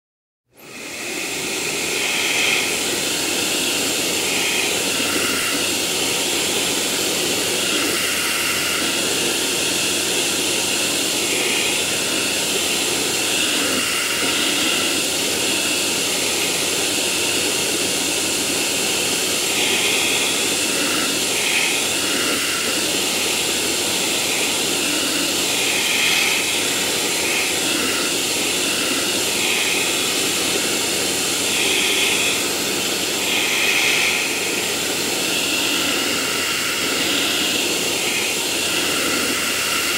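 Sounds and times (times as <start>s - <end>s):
vacuum cleaner running: 0.5s - 39.9s.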